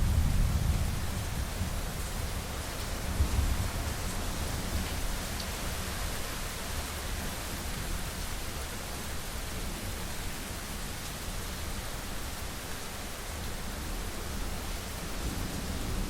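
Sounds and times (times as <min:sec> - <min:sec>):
heavy rain on a window: 0:00.0 - 0:16.0.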